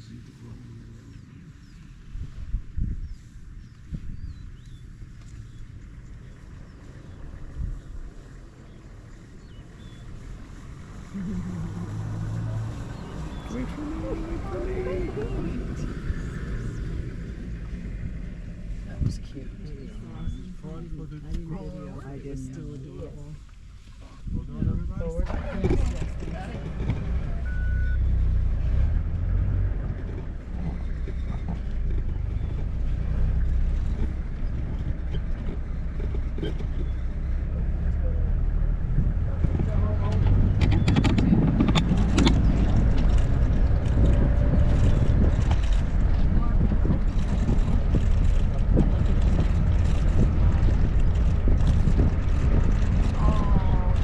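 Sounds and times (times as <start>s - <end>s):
vehicle engine rumbling: 0.0s - 54.0s
wind buffeting microphone: 1.5s - 22.2s, 23.4s - 54.0s.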